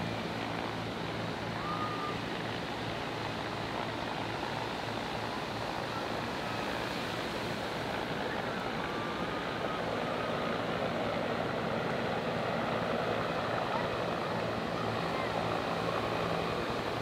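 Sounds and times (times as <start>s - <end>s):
helicopter rotors hovering: 0.0s - 17.0s.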